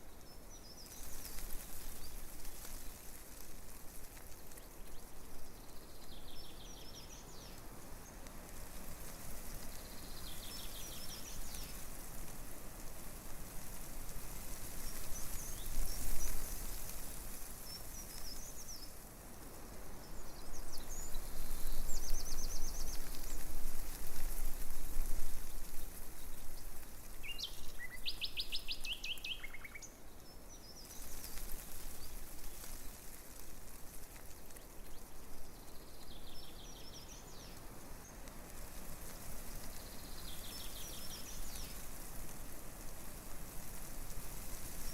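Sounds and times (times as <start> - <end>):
small birds chirping: 0.0 - 19.2, 19.9 - 44.9
breeze rustling tree leaves: 0.0 - 44.9.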